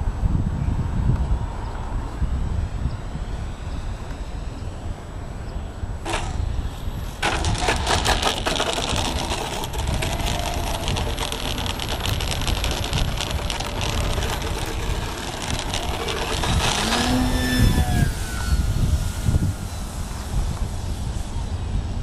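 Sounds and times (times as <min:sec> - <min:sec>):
wind buffeting the microphone: 0:00.0 - 0:22.0
small model airplane motor whine: 0:02.2 - 0:22.0.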